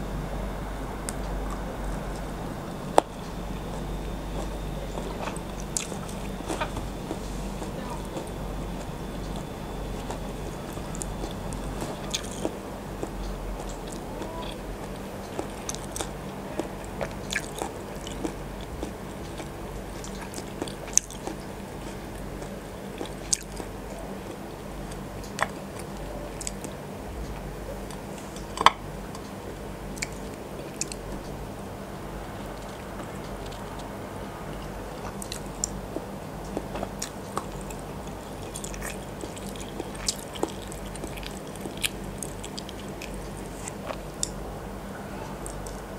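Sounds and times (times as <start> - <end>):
low hum and hiss: 0.0 - 45.9
chewing and biting: 1.1 - 31.4, 32.2 - 44.4, 45.3 - 45.9.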